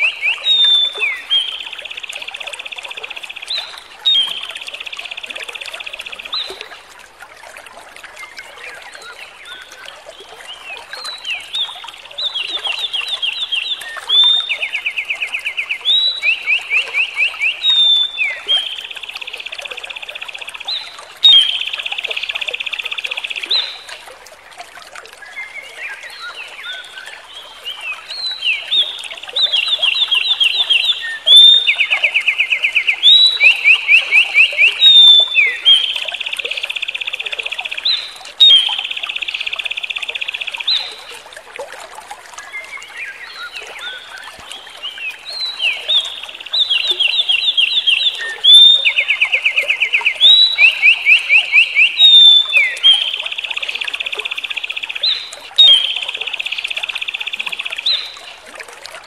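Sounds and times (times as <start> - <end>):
songbird singing trills: 0.0 - 6.7, 8.2 - 24.0, 25.3 - 41.2, 42.4 - 58.4.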